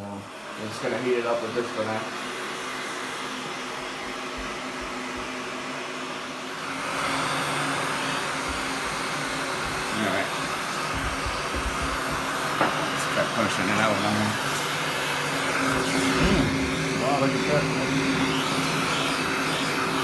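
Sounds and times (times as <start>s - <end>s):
heat gun blowing air: 0.0s - 20.0s.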